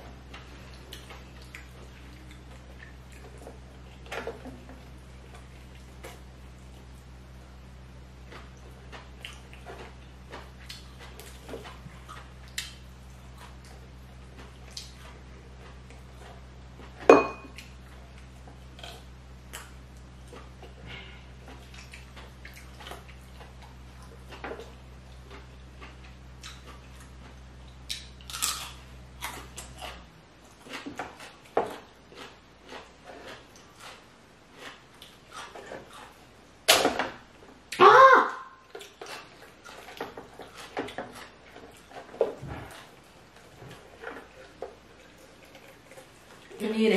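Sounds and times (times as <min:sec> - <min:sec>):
low steady hum: 0:00.0 - 0:46.9
chewing: 0:00.1 - 0:36.4, 0:38.7 - 0:46.6.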